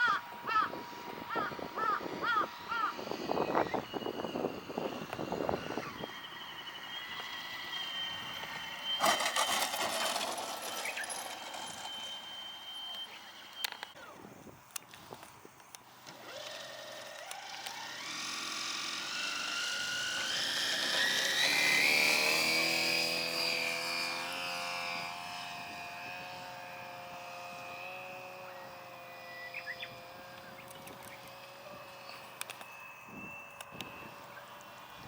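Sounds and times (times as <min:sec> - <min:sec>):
model airplane motor and propeller: 0:00.0 - 0:35.0.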